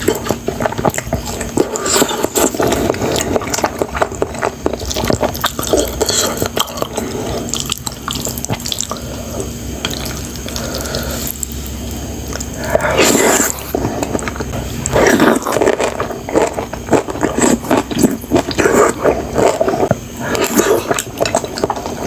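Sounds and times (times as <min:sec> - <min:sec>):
wet chewing and slurping noodles: 0:00.0 - 0:22.0.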